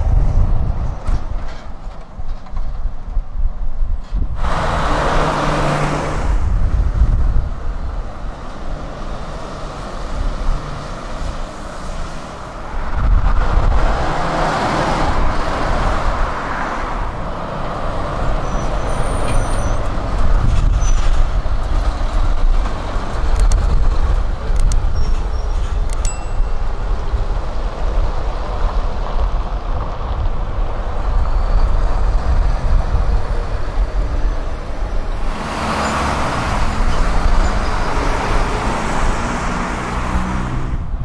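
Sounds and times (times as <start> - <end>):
lorries driving past: 0.0 - 41.0
traffic: 0.0 - 41.0.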